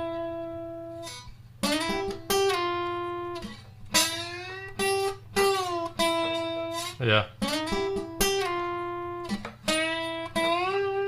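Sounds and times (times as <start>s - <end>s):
guitar sliding notes: 0.0s - 11.0s.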